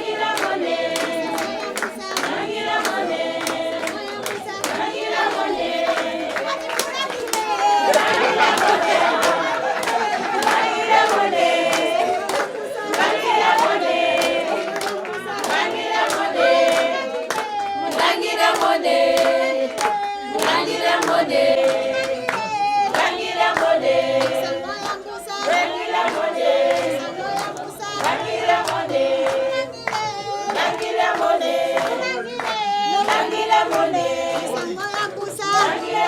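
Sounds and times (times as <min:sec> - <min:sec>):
group of voices singing: 0:00.0 - 0:36.0
rhythmic hand clapping: 0:00.0 - 0:36.0.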